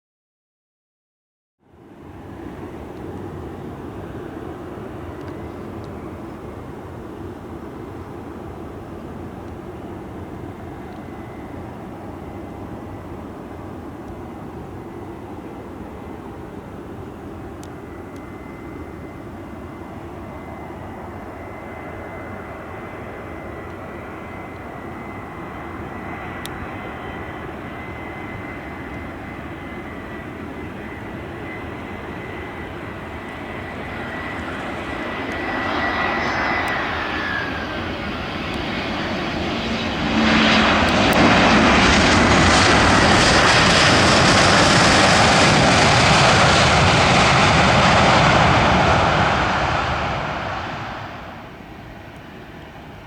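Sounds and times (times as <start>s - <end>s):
jet engines whining: 1.9s - 53.0s.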